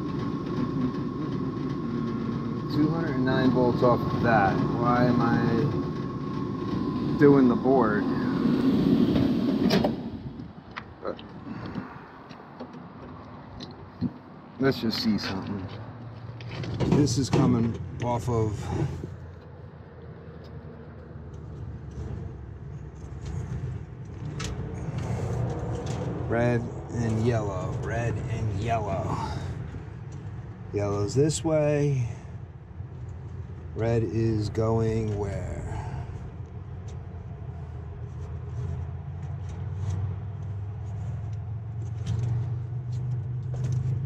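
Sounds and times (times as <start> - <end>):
low rumble of machinery: 0.0 - 44.0.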